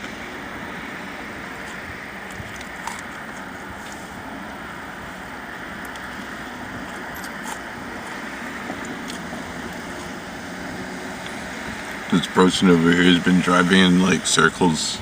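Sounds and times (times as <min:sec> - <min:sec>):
low hum and hiss in car: 0:00.0 - 0:15.0.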